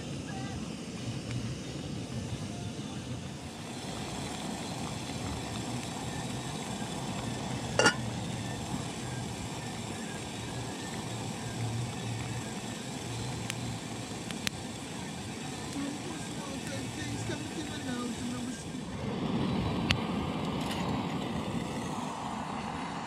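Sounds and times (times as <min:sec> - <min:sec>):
gas stove burning: 0:00.0 - 0:23.0
water boiling in a pot: 0:00.0 - 0:23.0.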